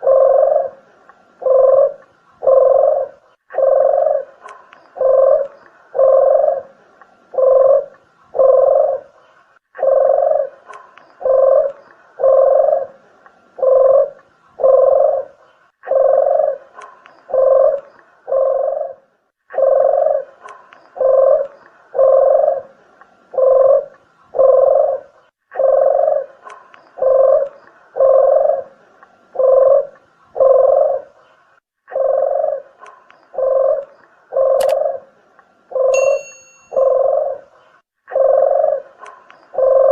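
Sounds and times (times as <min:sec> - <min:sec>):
dove cooing: 0:00.0 - 0:13.0, 0:13.6 - 0:28.8, 0:29.4 - 0:31.2, 0:31.9 - 0:39.9.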